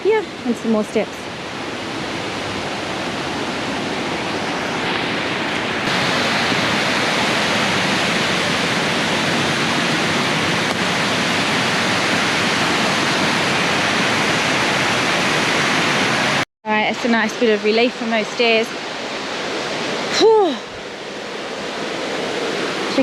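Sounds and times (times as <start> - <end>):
river rushing over cascades: 0.0 - 23.0.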